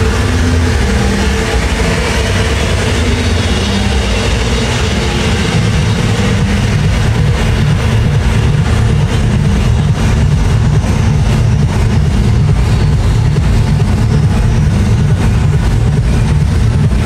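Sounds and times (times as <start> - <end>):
loud trance music: 0.0 - 17.0.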